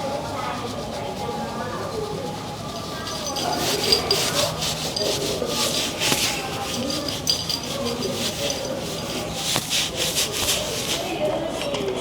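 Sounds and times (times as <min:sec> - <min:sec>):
brush rubbing cat fur: 0:00.0 - 0:11.7.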